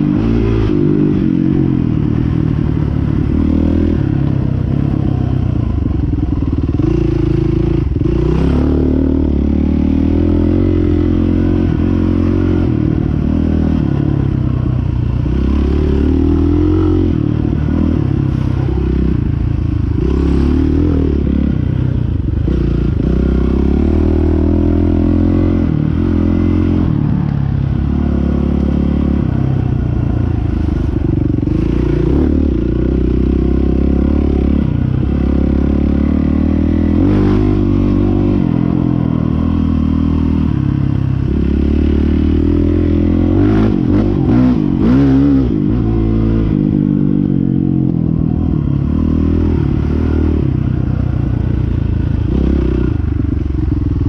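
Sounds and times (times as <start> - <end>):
dirt bike engine revving: 0.0 - 14.4, 15.1 - 27.0, 27.7 - 47.3.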